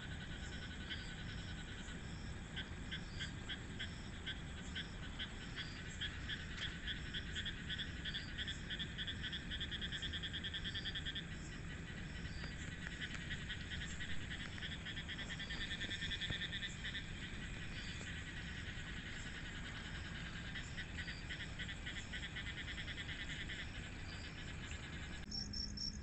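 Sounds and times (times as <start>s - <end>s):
frogs trilling: 0.0s - 26.0s.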